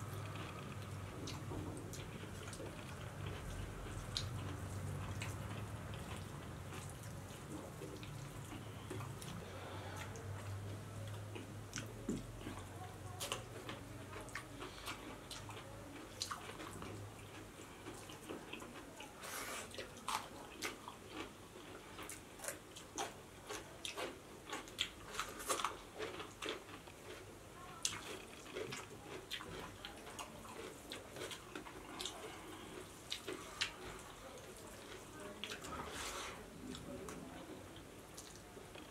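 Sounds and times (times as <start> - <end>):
wet chewing and lip-smacking: 0.0 - 35.7, 37.8 - 38.9
fingers mixing rice on plates: 0.0 - 38.9
low steady hum: 0.0 - 38.9.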